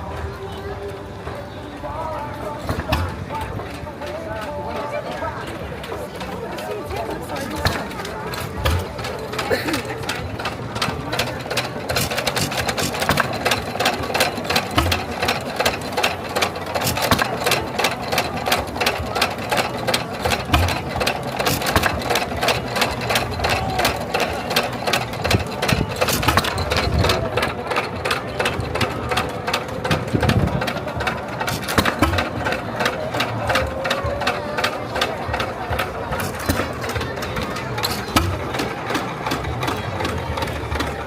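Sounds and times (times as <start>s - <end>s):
engine running with fast clatter: 0.0s - 41.0s.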